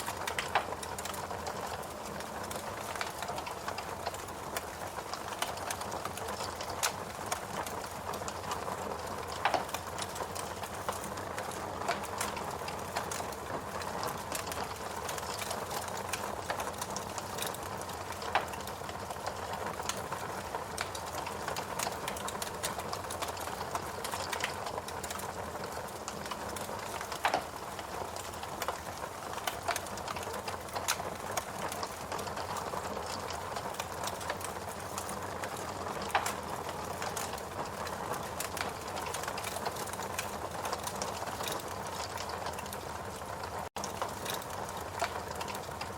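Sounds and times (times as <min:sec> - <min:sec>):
fireplace crackling and popping: 0:00.0 - 0:45.9.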